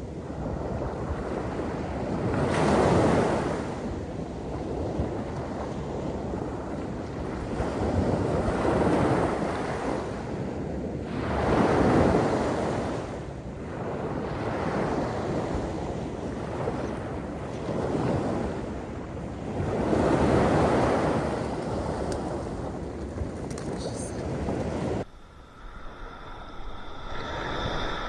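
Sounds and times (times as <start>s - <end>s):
small waves breaking on beach: 0.0s - 28.0s.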